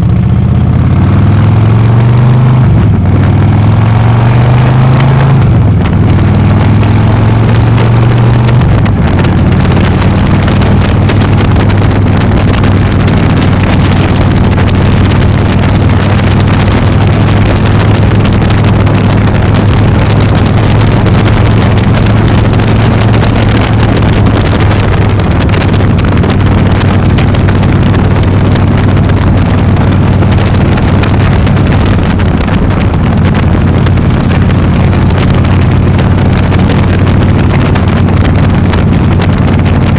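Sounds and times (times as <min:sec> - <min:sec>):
vehicle engine droning: 0:00.0 - 0:39.9
wind noise on microphone: 0:00.0 - 0:39.9.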